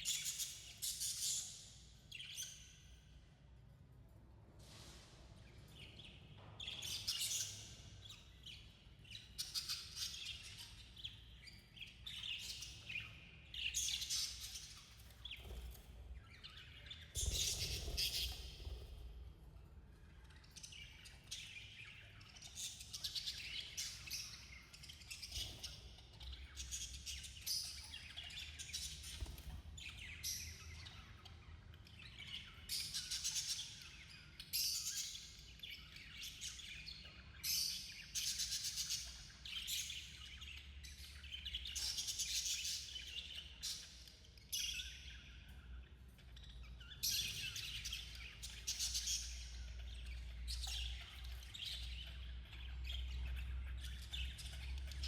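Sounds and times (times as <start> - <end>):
budgerigars chirping and chattering: 0.0 - 3.2, 5.6 - 55.0.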